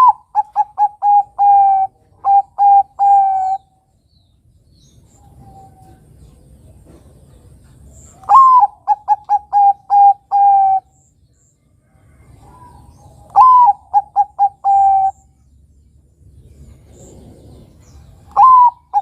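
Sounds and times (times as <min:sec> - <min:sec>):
dove cooing: 0:00.0 - 0:03.7, 0:05.2 - 0:11.0, 0:12.0 - 0:15.4, 0:16.6 - 0:19.0.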